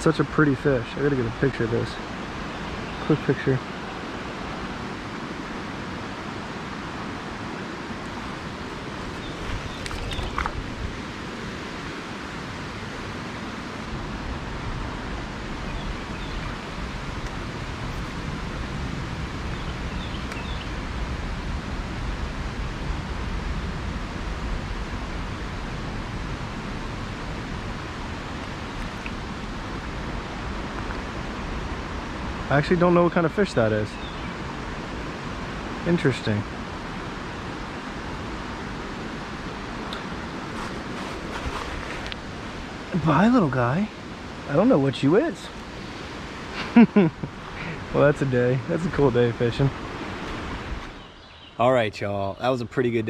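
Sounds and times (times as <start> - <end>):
creek water running: 0.0 - 20.8, 27.0 - 52.7.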